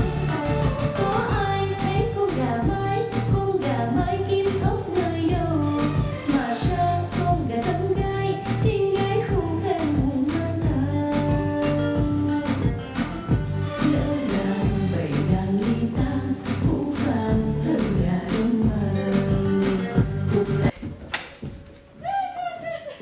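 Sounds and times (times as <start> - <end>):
person singing: 0.0 - 12.7, 13.7 - 20.7.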